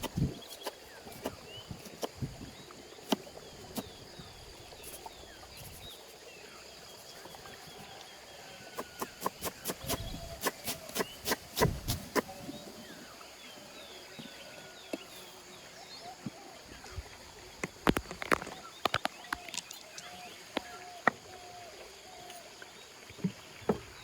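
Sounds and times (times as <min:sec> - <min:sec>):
birds chirping: 0:00.0 - 0:24.0
insects droning: 0:00.0 - 0:24.0.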